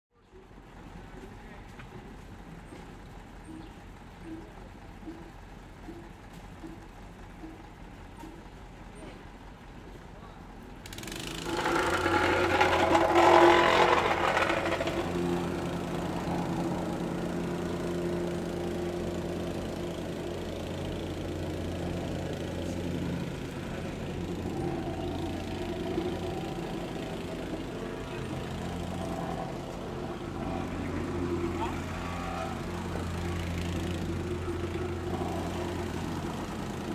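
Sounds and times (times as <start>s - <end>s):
plate compactor engine drone: 0.1s - 36.9s.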